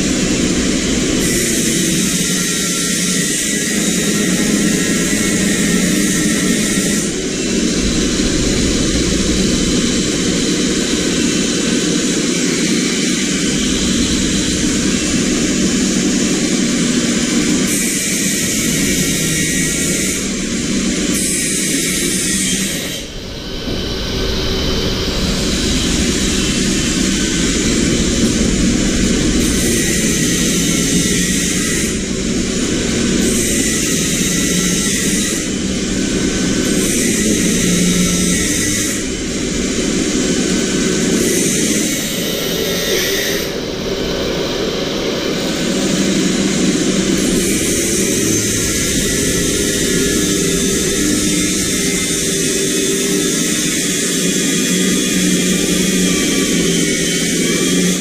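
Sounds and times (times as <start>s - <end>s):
machine noise with whooshing hiss: 0.0s - 58.0s.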